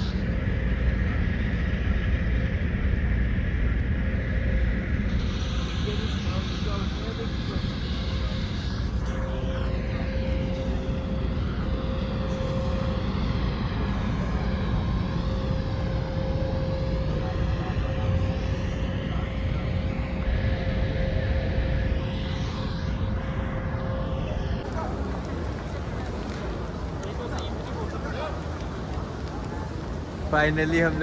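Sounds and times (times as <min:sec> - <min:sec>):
constant mid-pitched hum: 0:00.0 - 0:31.0
steady rumbling background noise: 0:00.0 - 0:31.0.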